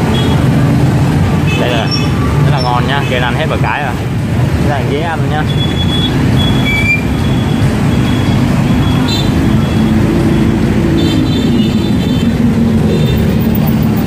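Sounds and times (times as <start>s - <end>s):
motorbike traffic passing: 0.0s - 14.0s.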